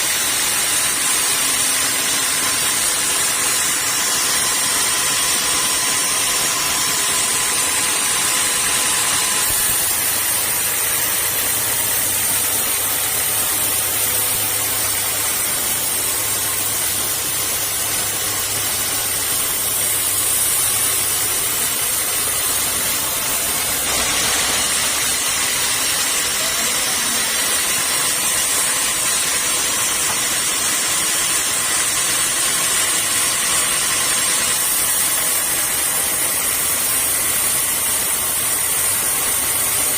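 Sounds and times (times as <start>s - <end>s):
sawmill saw hissing rush: 0.0s - 39.9s.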